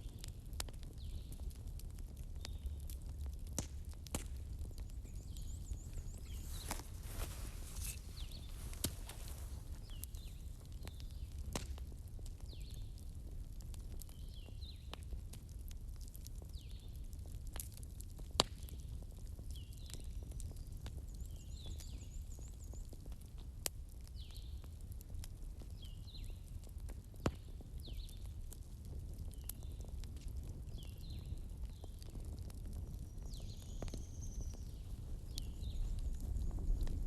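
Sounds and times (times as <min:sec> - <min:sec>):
fireplace burning with crackles: 0:00.0 - 0:37.0.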